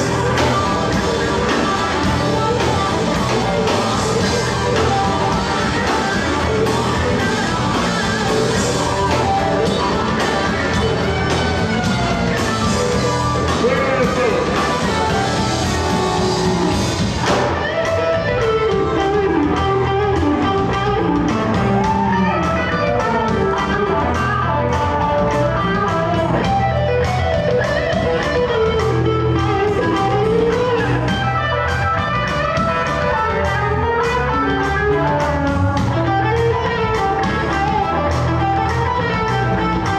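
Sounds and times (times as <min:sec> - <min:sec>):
drum kit: 0:00.0 - 0:39.9
electric bass: 0:00.0 - 0:39.9
electric guitar lead with bent notes: 0:00.0 - 0:39.9.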